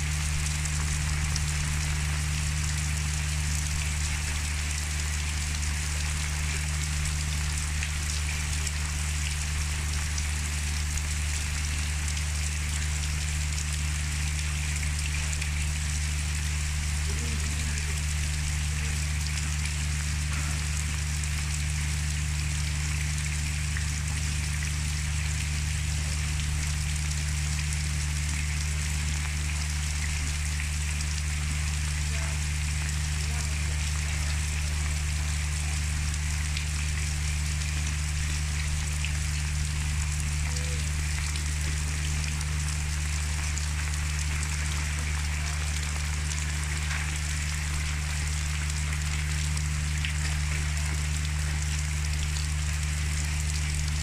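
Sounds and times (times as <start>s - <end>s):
constant low hum: 0.0s - 54.0s
rain on wet ground: 0.0s - 54.0s.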